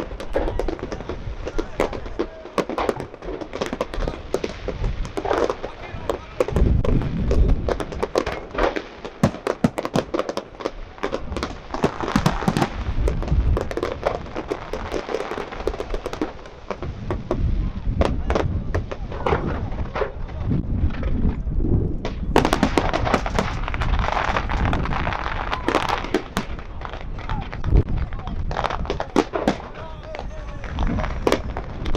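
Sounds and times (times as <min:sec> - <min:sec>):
sharp firework pops: 0:00.0 - 0:21.4, 0:22.0 - 0:31.9
fireworks crackling: 0:00.0 - 0:31.9.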